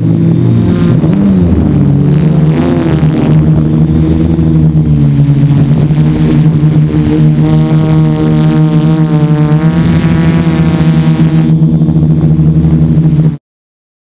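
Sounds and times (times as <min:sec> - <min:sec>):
drone propellers whirring: 0:00.0 - 0:13.4.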